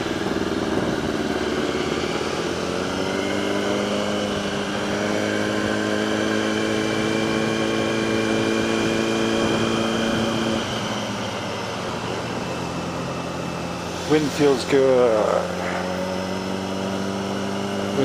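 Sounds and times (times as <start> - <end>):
wind noise: 0.0 - 14.7
motorcycle engine running: 0.0 - 18.0
road noise: 0.0 - 18.0.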